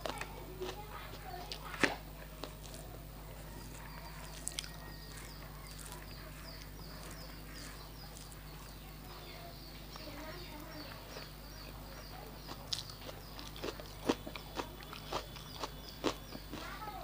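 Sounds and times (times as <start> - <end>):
small bird chirping: 0.2 - 17.0.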